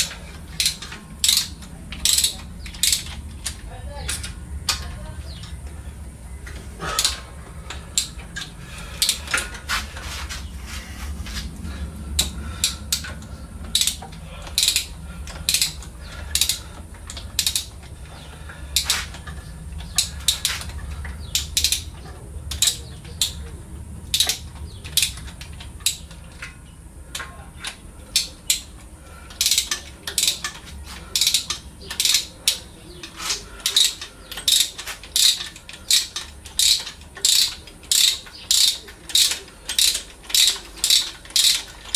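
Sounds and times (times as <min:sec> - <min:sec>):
ratchet wrench clicking: 0:00.0 - 0:05.6, 0:06.5 - 0:09.8, 0:12.2 - 0:41.9.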